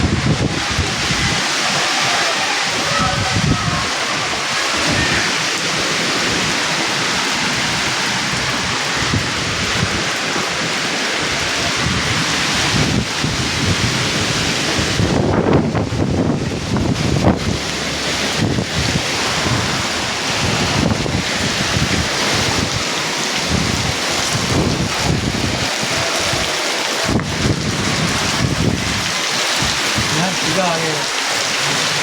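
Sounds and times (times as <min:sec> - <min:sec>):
heavy rain pouring: 0:00.0 - 0:32.0
wind buffeting microphone: 0:00.0 - 0:32.0
wind gusting: 0:00.0 - 0:32.0.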